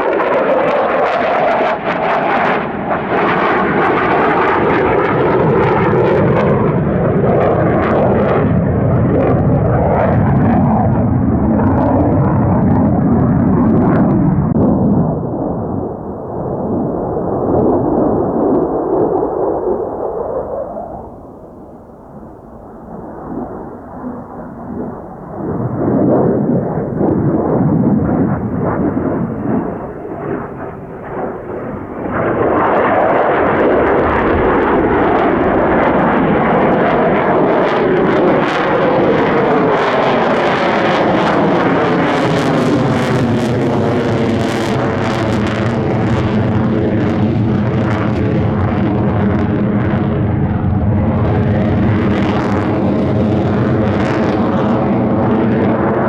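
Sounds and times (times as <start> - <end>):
fighter jet engine roaring: 0.0 - 56.0.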